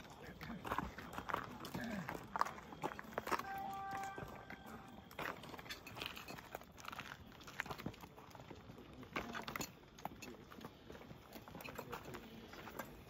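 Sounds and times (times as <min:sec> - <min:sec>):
footsteps on stony path: 0:00.0 - 0:13.0.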